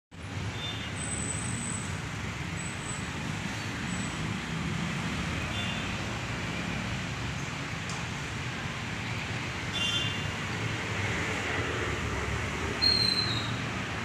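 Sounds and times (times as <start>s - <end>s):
road traffic: 0.1s - 14.0s.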